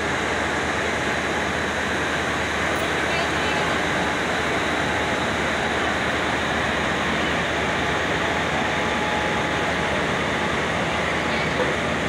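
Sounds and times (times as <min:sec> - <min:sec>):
electric locomotive rushing with whine: 0:00.0 - 0:12.0.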